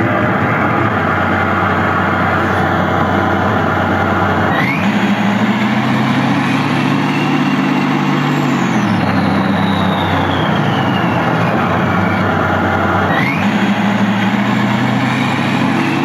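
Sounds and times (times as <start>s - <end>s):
high whine falling in pitch: 0.0s - 16.0s
simulated tank engine: 0.0s - 16.0s.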